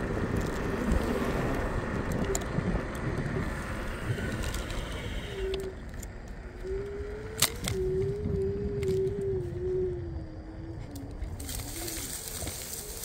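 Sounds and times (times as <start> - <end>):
scooter wheels rumbling on road: 0.0 - 13.0
thin steady whine: 0.0 - 13.0
wind on microphone: 0.0 - 13.0.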